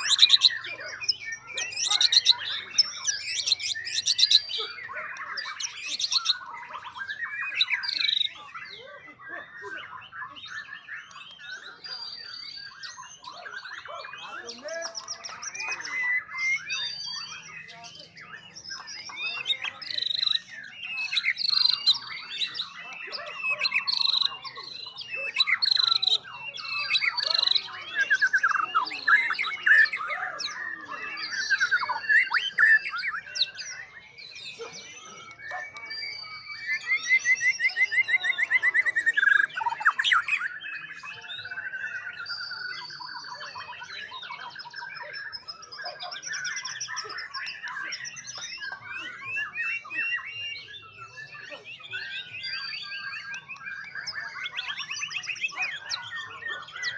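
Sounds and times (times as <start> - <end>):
birds singing whistled phrases: 0.0 - 56.9.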